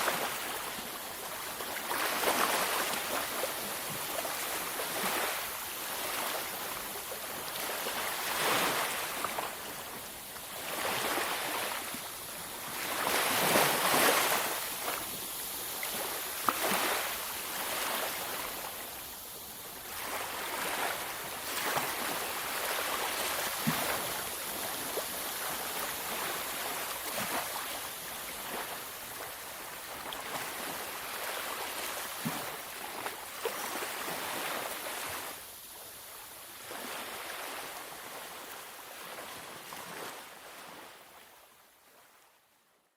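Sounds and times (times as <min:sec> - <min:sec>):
surf washing onto beach: 0:00.0 - 0:35.6.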